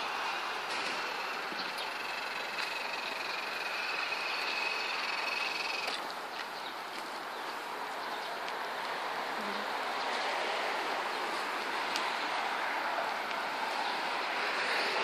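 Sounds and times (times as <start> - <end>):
traffic hiss: 0.0 - 15.0.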